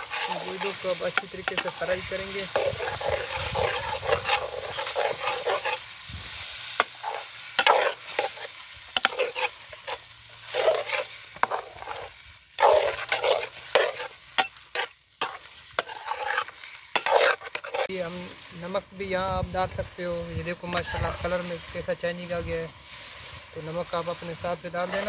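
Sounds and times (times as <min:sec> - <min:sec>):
metal spatula scraping pot: 0:00.0 - 0:18.5, 0:20.4 - 0:25.0
chicken sizzling in oil: 0:00.0 - 0:25.0.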